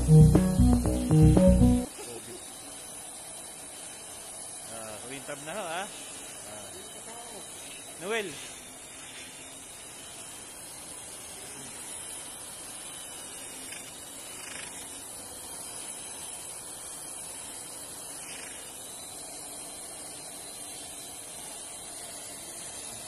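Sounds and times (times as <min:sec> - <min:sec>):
sanding disc hissing on stone: 0:02.1 - 0:23.0.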